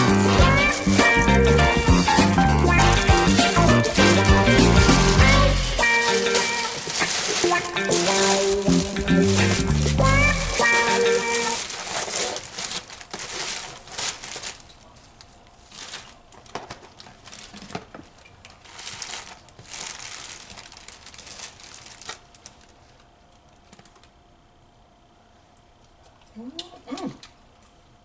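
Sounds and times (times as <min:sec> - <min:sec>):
food wrapping crinkling: 0:00.0 - 0:24.1.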